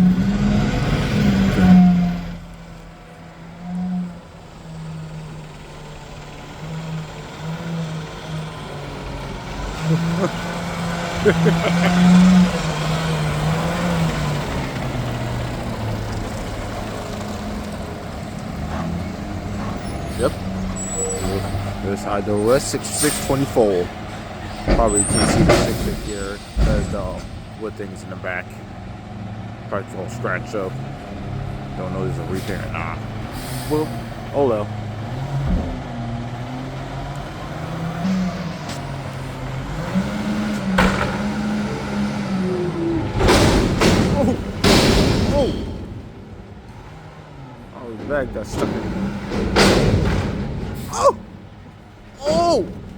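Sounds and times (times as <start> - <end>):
diesel truck engine idling: 0.0 - 52.9
hydraulics working: 0.0 - 52.9.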